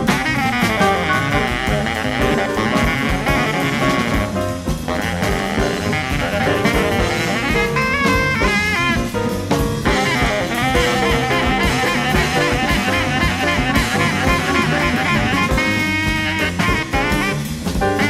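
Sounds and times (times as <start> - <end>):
drum kit: 0.0 - 18.0
piano: 0.0 - 18.0
saxophone lines: 0.0 - 18.0
upright bass: 0.0 - 18.0.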